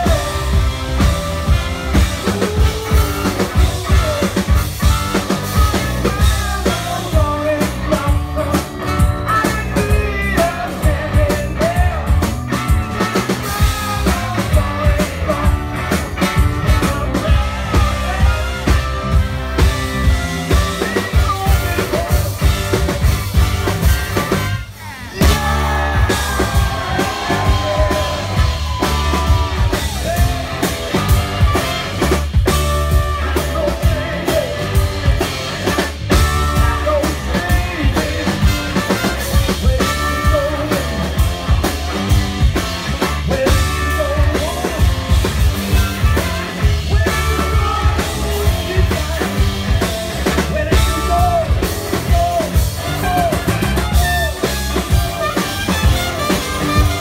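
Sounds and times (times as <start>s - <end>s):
man singing: 0.0s - 23.7s, 24.4s - 57.0s
drum kit: 0.0s - 57.0s
electric guitar: 0.0s - 57.0s.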